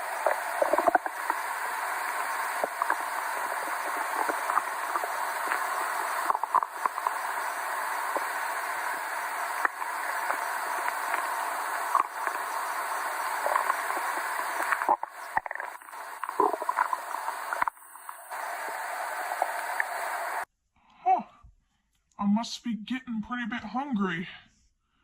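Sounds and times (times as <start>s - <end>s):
stomach growling: 0.0s - 20.4s.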